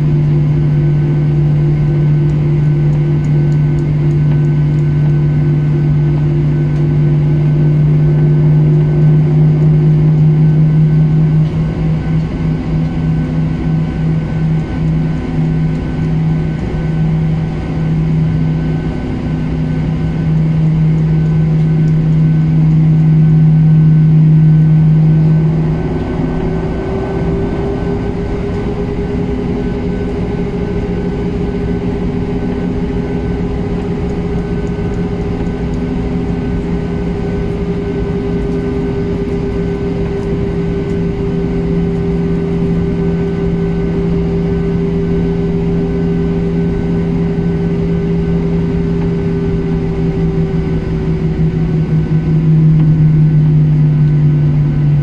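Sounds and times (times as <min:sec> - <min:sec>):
jet engines humming in cabin: 0:00.0 - 0:55.0.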